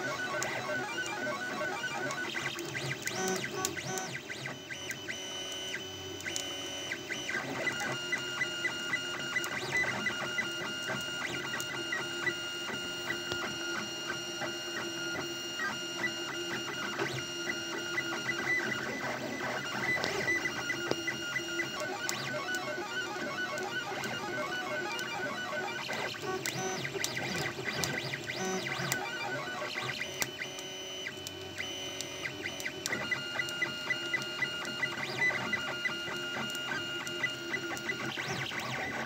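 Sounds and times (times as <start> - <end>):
printer stepper motors singing: 0.0 - 39.0.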